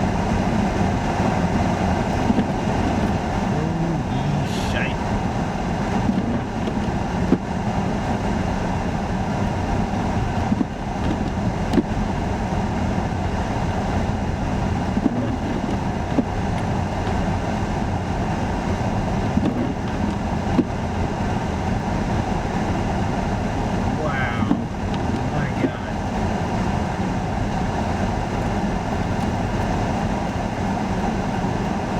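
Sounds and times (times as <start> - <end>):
strong blizzard wind: 0.0 - 31.9
vehicles idling: 0.0 - 31.9.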